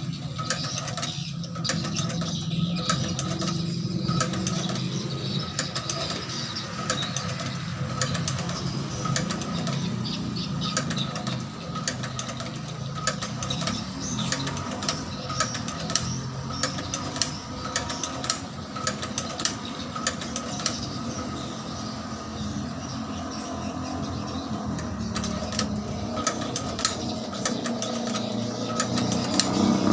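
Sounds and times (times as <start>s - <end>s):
stitching mechanism clicks: 0.0s - 21.8s, 24.0s - 29.9s
stitching machine motor: 0.0s - 29.9s.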